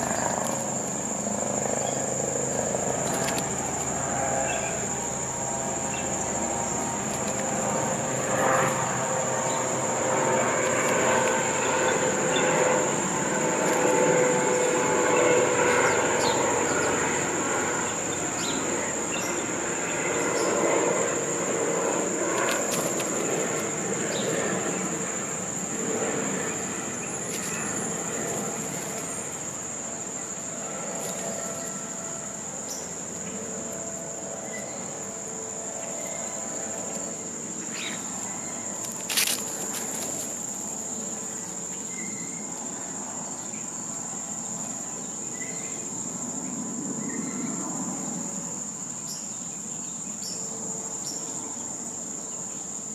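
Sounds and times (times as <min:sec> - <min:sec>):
insect chorus drone: 0:00.0 - 0:52.9.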